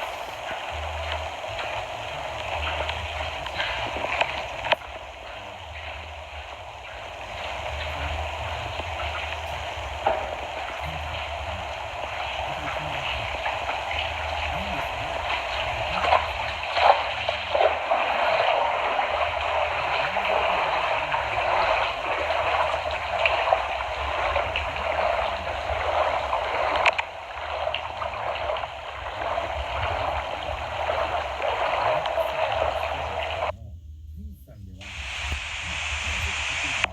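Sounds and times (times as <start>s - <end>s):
floodwater rushing and gurgling: 0.0s - 33.5s, 34.8s - 36.9s
low rumble: 0.0s - 36.9s.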